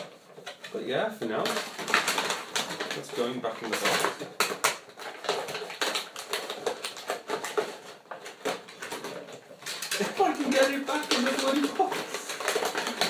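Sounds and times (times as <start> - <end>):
cardboard and plastic clicks and rustles: 0.0 - 13.0.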